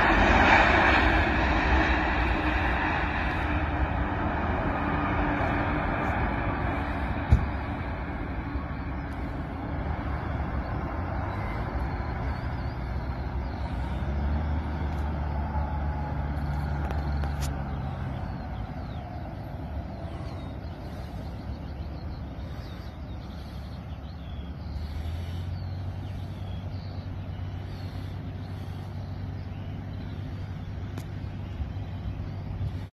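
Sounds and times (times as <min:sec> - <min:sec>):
distant jet engines rumbling: 0:00.0 - 0:32.9.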